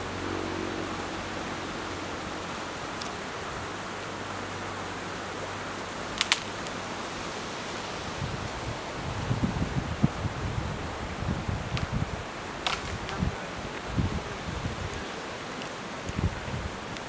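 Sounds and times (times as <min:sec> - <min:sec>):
wind through leaves: 0:00.0 - 0:17.0.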